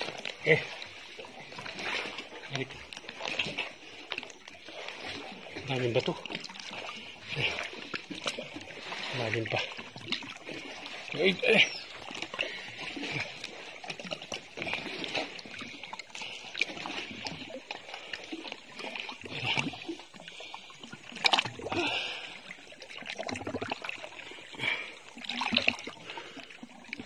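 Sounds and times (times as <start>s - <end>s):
sea water splashing: 0.0s - 27.0s.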